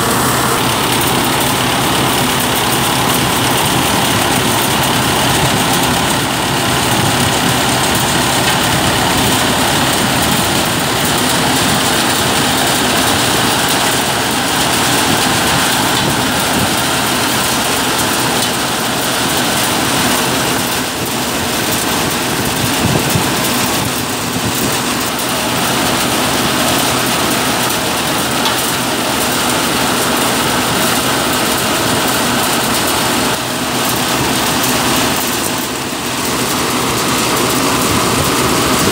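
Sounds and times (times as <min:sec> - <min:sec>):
thresher running: 0:00.0 - 0:38.9
tractor diesel engine: 0:00.0 - 0:38.9.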